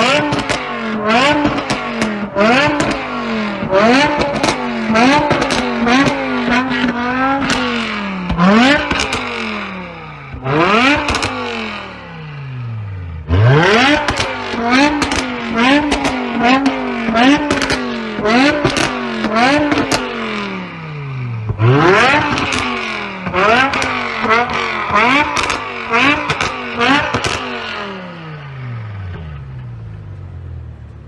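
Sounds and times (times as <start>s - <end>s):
exhaust cracks: 0.0s - 28.0s
car engine revving: 0.0s - 31.0s.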